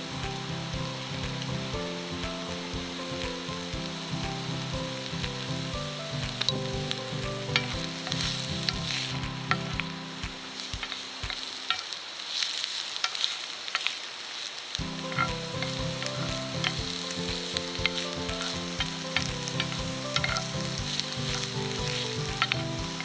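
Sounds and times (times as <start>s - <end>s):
background music: 0.0s - 11.9s, 14.8s - 23.0s
food sizzling in a pan: 0.0s - 23.0s.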